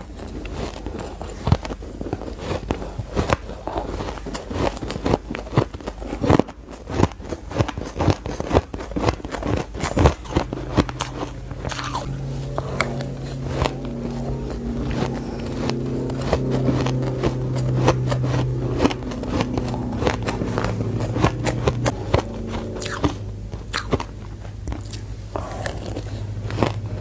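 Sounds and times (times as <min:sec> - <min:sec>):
chewing shaved ice: 0:00.0 - 0:27.0
steady low hum: 0:00.0 - 0:27.0.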